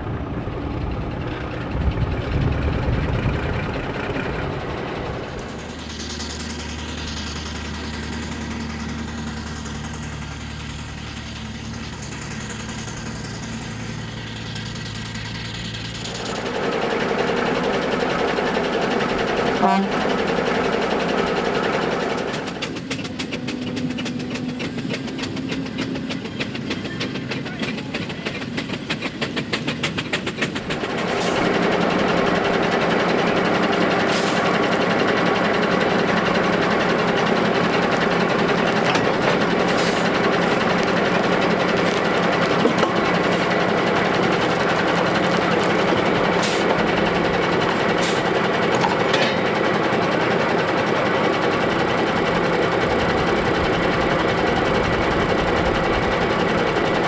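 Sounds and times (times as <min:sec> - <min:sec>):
steam engine chuffing: 0:00.0 - 0:57.0.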